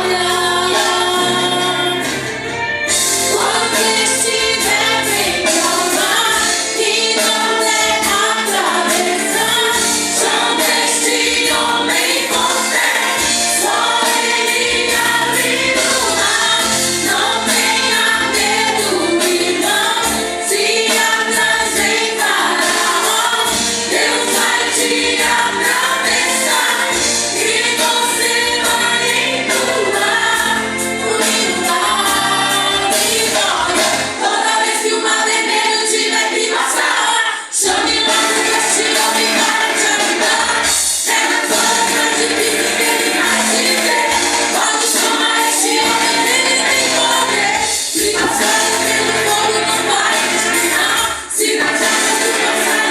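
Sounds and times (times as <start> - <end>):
group singing worship song: 0.0 - 52.9
live band with steady beat: 0.0 - 52.9.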